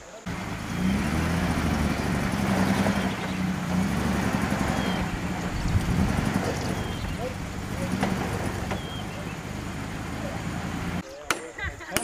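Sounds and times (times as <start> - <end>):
vehicle engine running: 0.2 - 11.0.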